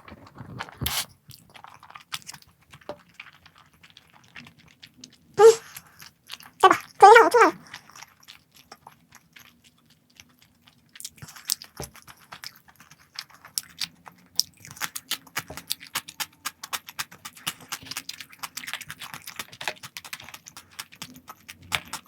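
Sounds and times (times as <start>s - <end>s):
chewing crispy food: 0.0s - 22.0s.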